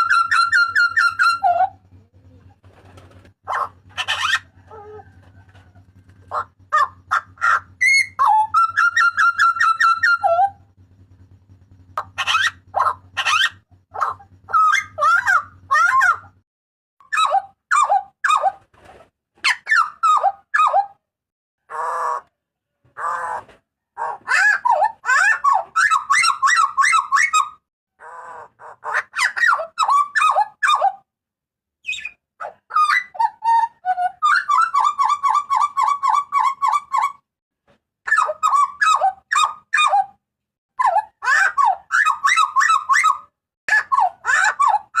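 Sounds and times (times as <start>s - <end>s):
butcherbird calls: 0.0s - 16.4s, 17.0s - 21.0s, 23.0s - 31.0s, 31.8s - 37.2s, 38.1s - 40.2s, 40.8s - 45.0s
harsh rasping bird calls: 0.0s - 16.4s, 21.6s - 22.3s, 23.0s - 31.0s, 31.8s - 37.2s, 38.1s - 40.2s, 40.8s - 45.0s.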